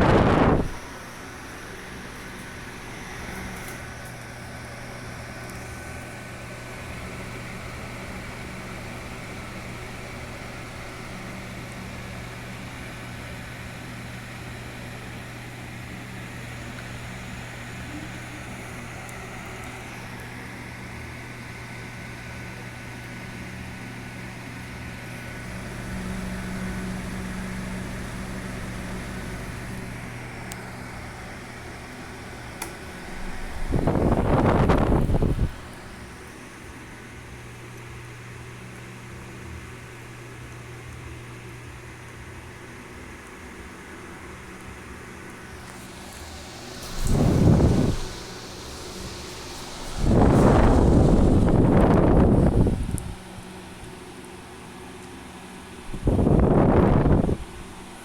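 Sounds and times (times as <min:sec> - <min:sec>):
electric fan running: 0:00.0 - 0:58.0.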